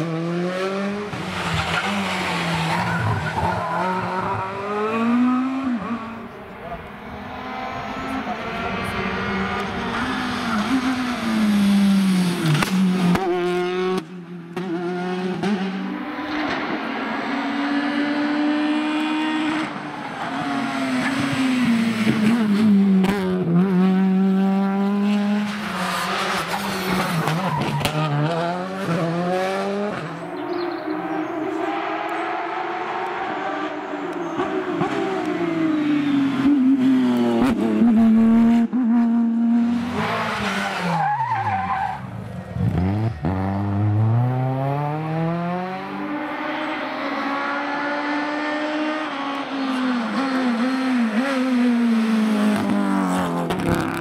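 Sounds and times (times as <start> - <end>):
rally cars passing at full throttle: 0.0 - 54.0.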